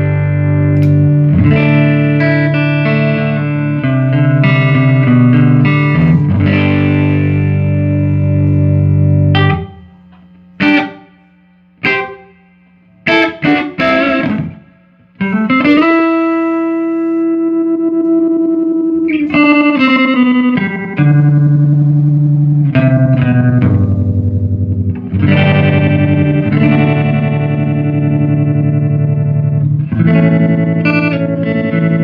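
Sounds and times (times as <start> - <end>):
electric guitar: 0.0 - 32.0.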